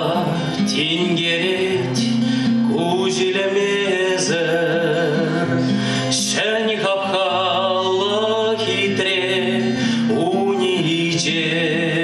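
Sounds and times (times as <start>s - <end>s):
acoustic guitar: 0.0s - 12.0s
man singing long notes: 0.0s - 12.0s.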